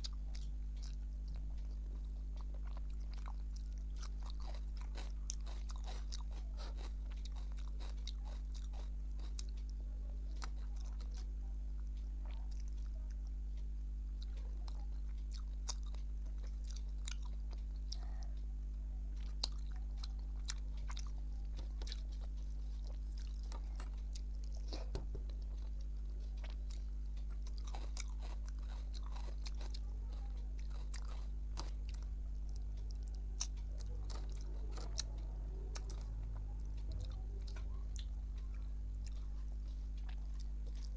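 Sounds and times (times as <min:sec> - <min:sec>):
low electrical hum: 0:00.0 - 0:40.9
wet chewing and mouth clicks: 0:00.0 - 0:40.9.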